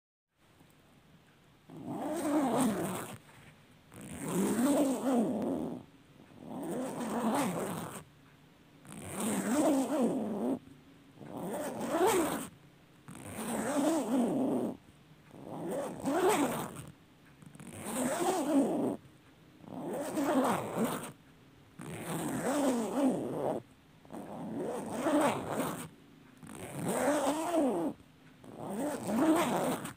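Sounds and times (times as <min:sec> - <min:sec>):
zipper rasping: 0:01.7 - 0:08.1, 0:08.8 - 0:10.6, 0:11.2 - 0:21.2, 0:21.8 - 0:29.9.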